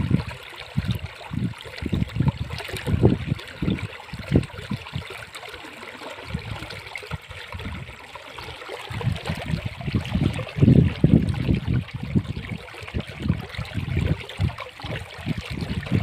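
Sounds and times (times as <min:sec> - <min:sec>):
deep water gurgles: 0:00.0 - 0:16.0.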